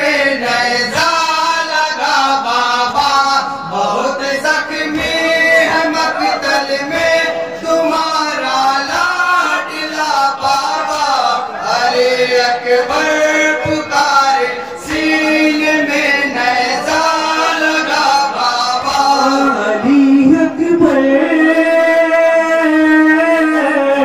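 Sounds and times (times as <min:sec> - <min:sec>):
men singing a mourning lament: 0:00.0 - 0:24.0.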